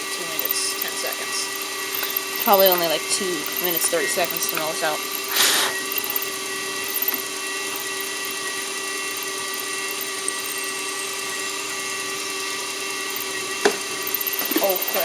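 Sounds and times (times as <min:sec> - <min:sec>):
milling machine whining: 0:00.0 - 0:15.0.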